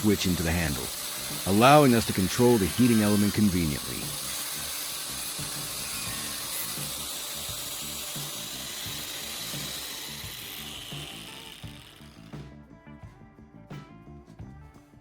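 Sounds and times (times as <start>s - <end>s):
angle grinder cutting plastic pipe: 0.0s - 12.6s.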